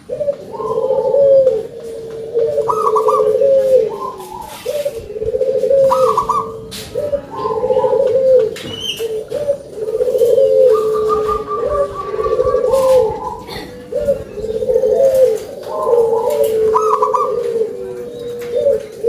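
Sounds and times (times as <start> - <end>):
zebra dove cooing: 0.0 - 19.0.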